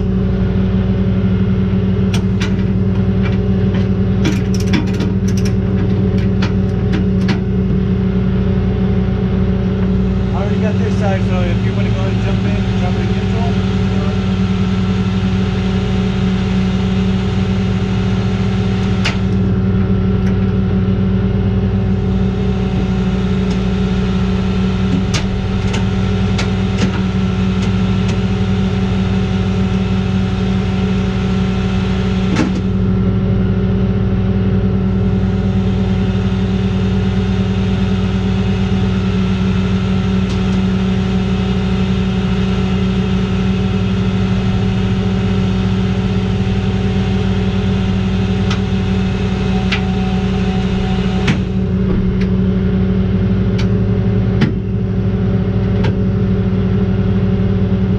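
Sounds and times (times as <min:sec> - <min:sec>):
tow truck hydraulics and winch: 0:02.0 - 0:07.9, 0:10.4 - 0:20.6, 0:21.8 - 0:33.0, 0:34.9 - 0:54.9.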